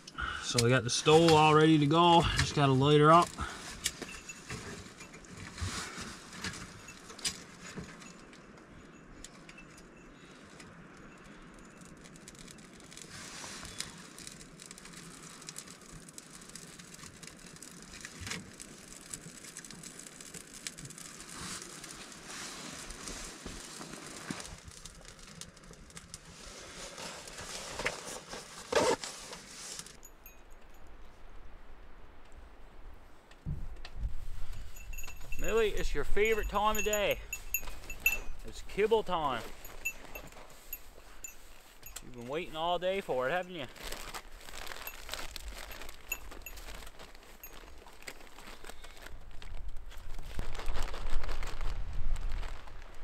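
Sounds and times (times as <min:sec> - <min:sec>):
wood fire crackling: 0:00.0 - 0:30.8, 0:32.2 - 0:53.0.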